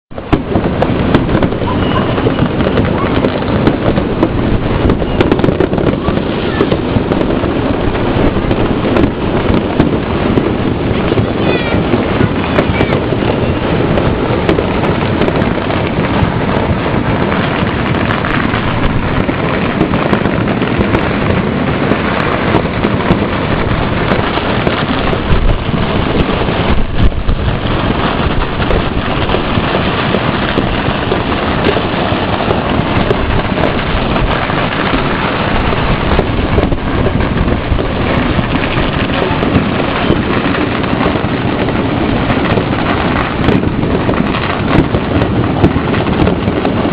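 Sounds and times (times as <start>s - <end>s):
fireworks crackling: 0.1s - 46.9s.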